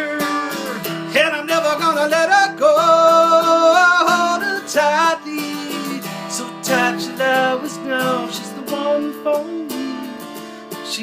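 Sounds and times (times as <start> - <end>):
man singing: 0.0 - 11.0
strummed acoustic guitar: 0.0 - 11.0.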